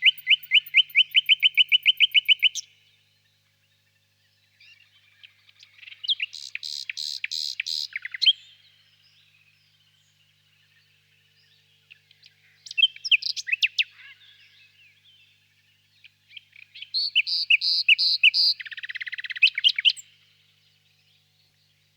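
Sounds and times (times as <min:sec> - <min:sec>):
nightingale singing: 0:00.0 - 0:02.9, 0:04.6 - 0:21.9.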